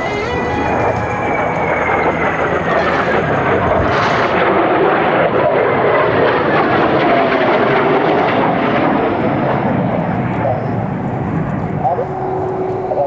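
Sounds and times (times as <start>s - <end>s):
aircraft engines whining: 0.0s - 13.0s.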